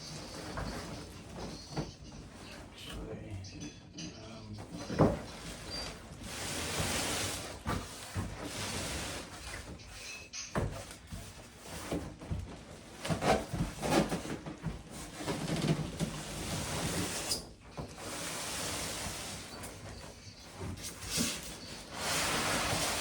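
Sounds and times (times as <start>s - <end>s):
packaging rustling and scraping: 0.0s - 2.8s, 4.6s - 23.0s.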